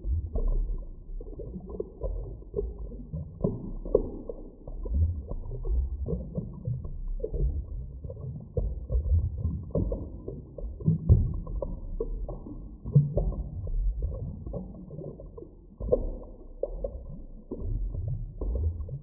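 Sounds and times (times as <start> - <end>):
bubbling gurgles and pops: 0.0 - 19.0
low underwater rumble: 0.0 - 19.0.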